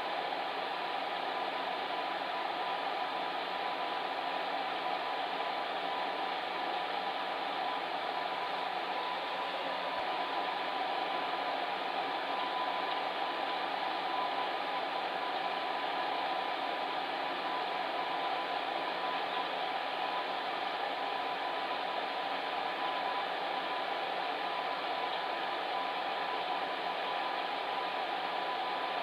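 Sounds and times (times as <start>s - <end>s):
fan heater blowing air: 0.0s - 29.0s.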